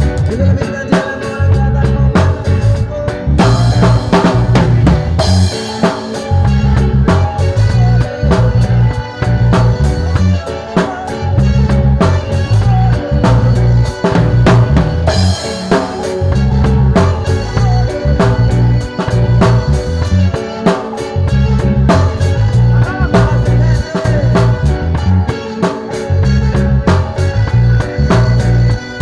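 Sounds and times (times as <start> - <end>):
music with drums bass and guitar: 0.0 - 29.0.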